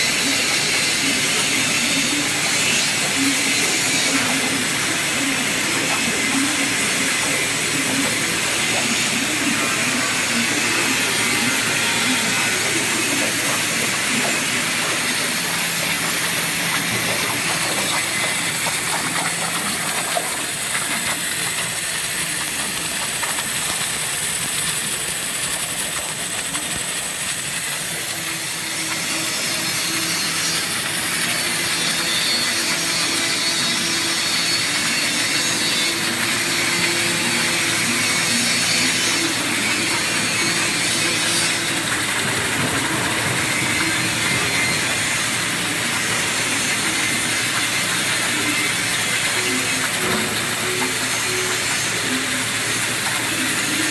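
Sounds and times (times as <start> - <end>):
waterjet cutting metal hiss: 0.0 - 53.9.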